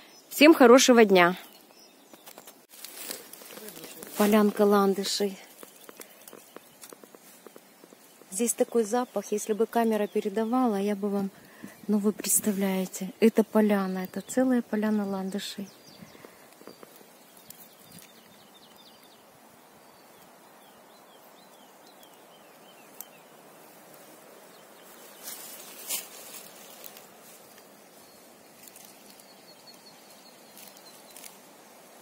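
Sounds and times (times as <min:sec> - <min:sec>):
distant small birds singing: 0:00.0 - 0:32.0
rustling near microphone: 0:01.4 - 0:14.4, 0:15.3 - 0:19.1, 0:22.2 - 0:32.0.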